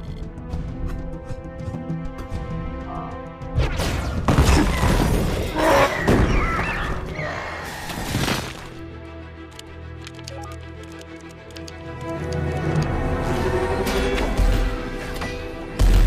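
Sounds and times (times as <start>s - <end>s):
film score music: 0.0s - 16.0s.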